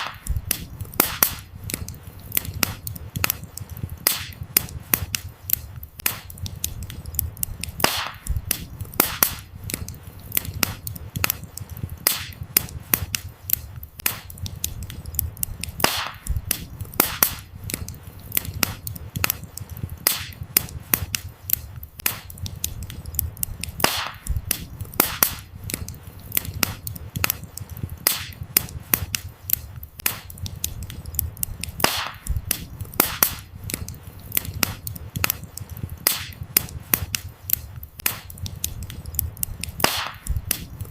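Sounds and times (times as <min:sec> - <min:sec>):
firewood crackling and popping: 0:00.0 - 0:40.9
low rumble of flames: 0:00.1 - 0:40.9.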